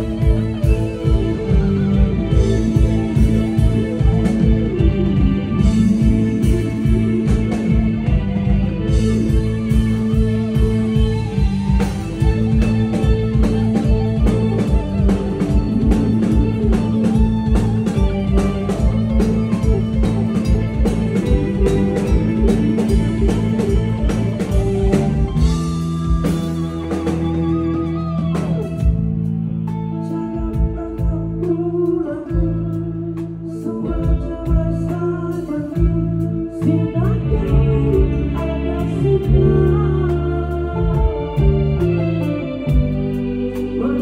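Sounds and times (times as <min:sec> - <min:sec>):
drum kit: 0:00.0 - 0:31.6, 0:32.2 - 0:44.0
electric guitar playing lead lines: 0:00.0 - 0:44.0.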